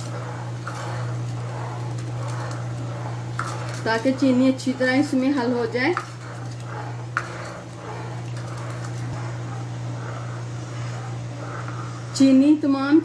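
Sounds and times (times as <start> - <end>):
spoon stirring liquid: 0.0 - 12.2
steady low hum: 0.0 - 13.0.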